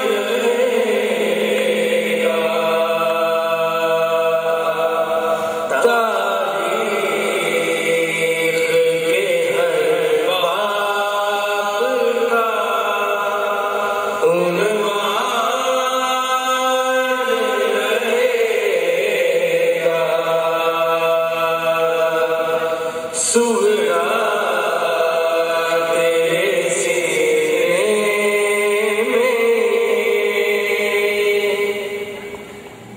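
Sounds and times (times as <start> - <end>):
men chanting a lament: 0.0 - 32.4.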